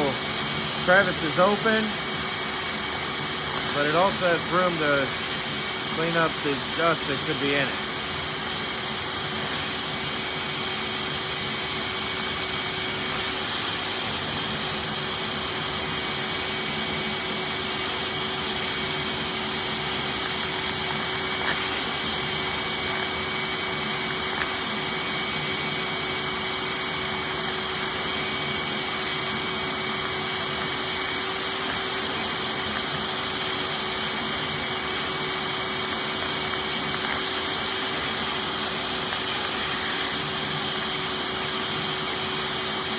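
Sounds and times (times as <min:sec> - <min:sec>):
shop vacuum running: 0:00.0 - 0:42.9.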